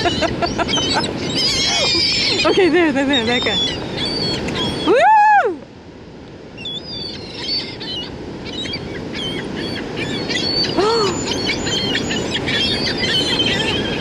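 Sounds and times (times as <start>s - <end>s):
gulls calling: 0.0s - 5.5s, 6.6s - 14.0s.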